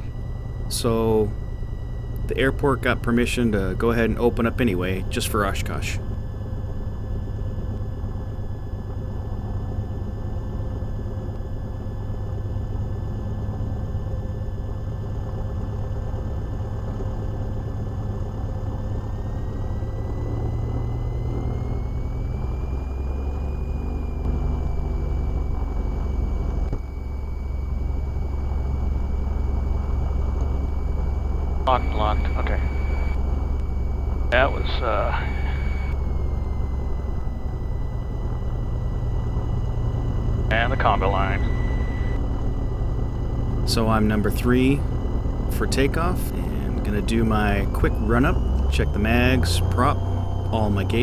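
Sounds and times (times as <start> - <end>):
piston engine and propeller running: 0.0 - 51.0.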